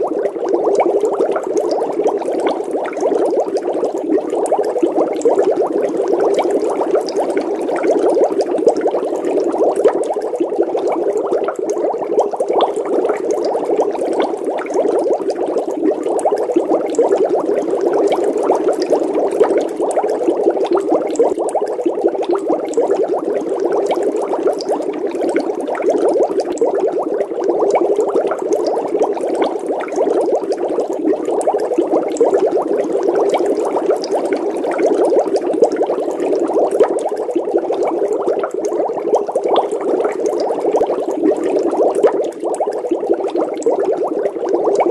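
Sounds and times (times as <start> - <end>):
water bubbling: 0.0 - 44.9.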